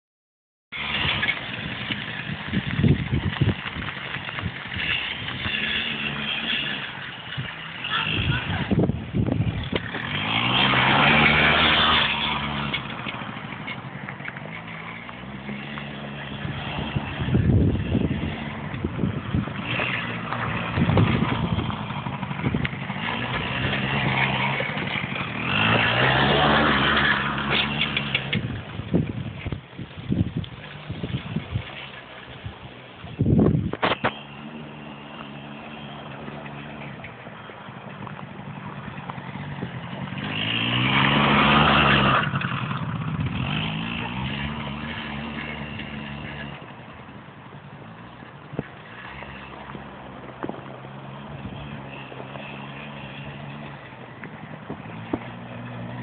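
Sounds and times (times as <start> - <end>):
quad bike engine running: 0.7 - 56.0.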